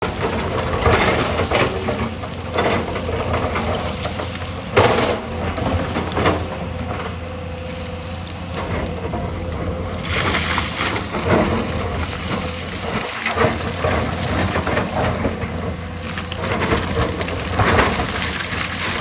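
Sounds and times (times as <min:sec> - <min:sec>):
bucket crunching rock and soil: 0:00.0 - 0:19.0
excavator diesel engine whining: 0:00.0 - 0:19.0.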